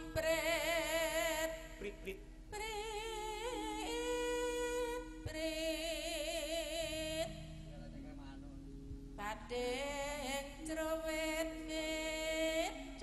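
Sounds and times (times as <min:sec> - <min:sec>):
woman singing with vibrato: 0:00.0 - 0:01.9, 0:02.5 - 0:07.7, 0:09.2 - 0:13.0.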